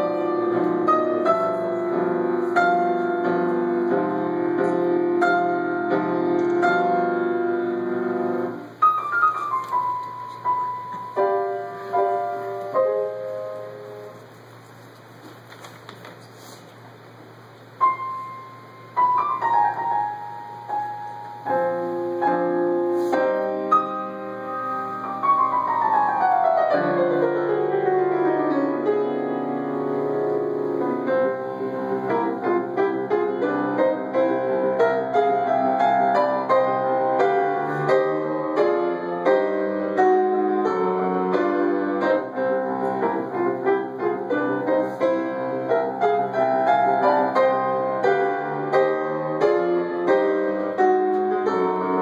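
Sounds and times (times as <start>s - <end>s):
grand piano playing: 0.0s - 15.2s, 17.3s - 52.0s.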